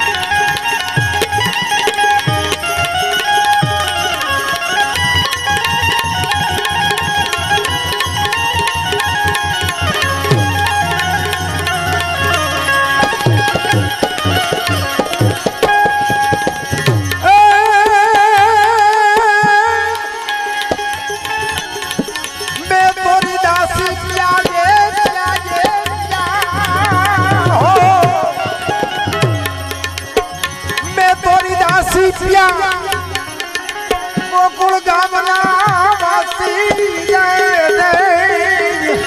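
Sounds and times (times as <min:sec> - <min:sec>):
tabla rhythm: 0:00.0 - 0:39.0.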